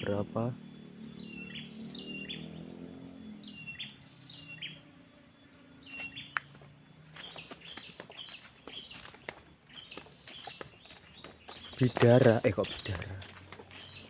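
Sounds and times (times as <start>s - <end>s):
bird calling with falling notes: 0.0s - 14.0s
high insect trill: 0.0s - 14.0s.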